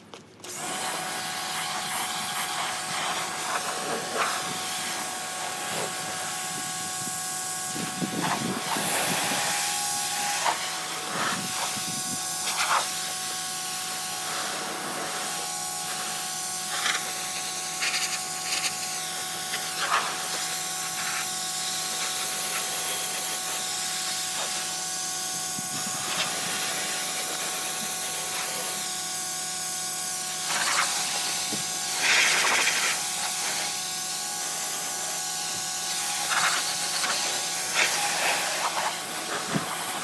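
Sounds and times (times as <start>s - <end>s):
pressure washer spraying hiss: 0.6s - 40.0s.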